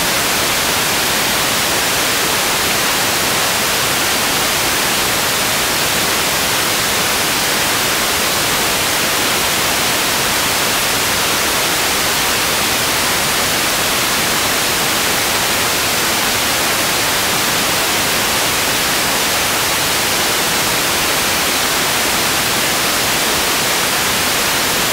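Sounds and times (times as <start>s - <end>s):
loud static hiss: 0.0s - 24.9s.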